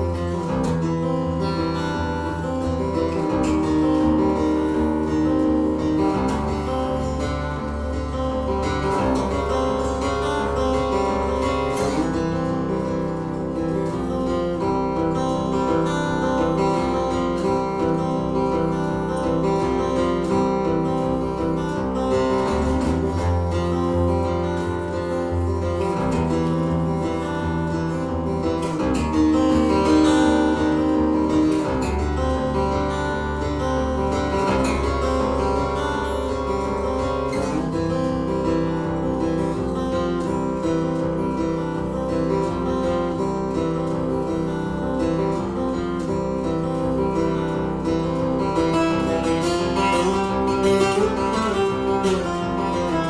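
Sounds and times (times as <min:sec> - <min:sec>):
acoustic guitar playing: 0:00.0 - 0:53.0
low bass line: 0:00.0 - 0:53.0.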